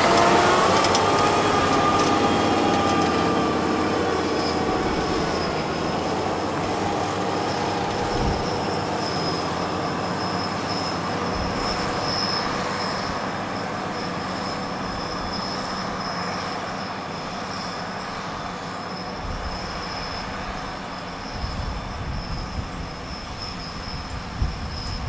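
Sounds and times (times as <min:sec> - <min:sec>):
high whine: 0:00.0 - 0:25.0
tractor diesel engines under load: 0:00.0 - 0:25.0.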